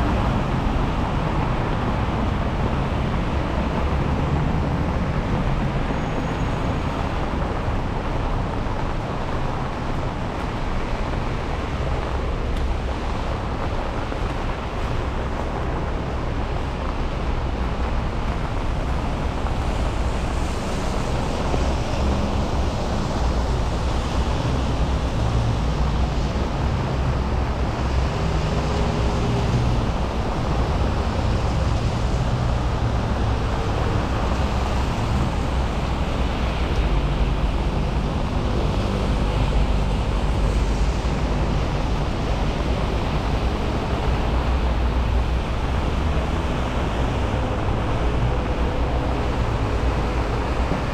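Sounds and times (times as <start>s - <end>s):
engine hums: 0.0s - 50.9s
low rumble of passing vehicles: 0.0s - 50.9s
rain hissing on wet road: 0.0s - 50.9s.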